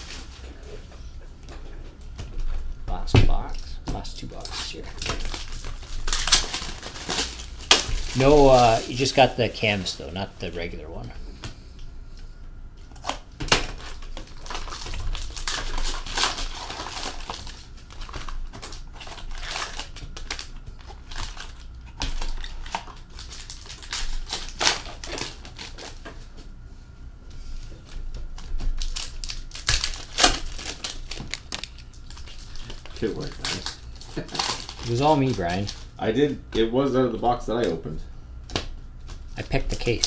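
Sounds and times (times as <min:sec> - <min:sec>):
card packs rustling and crinkling: 0:00.0 - 0:01.2, 0:02.0 - 0:11.0, 0:12.9 - 0:26.4, 0:27.8 - 0:36.3, 0:38.5 - 0:40.0.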